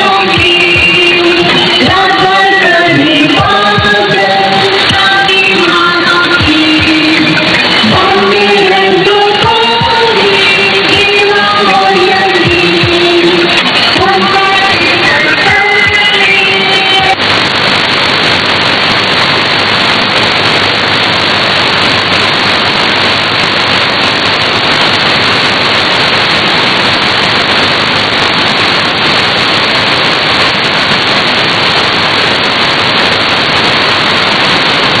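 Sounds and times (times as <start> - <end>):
shortwave radio static hiss: 0.0 - 35.0.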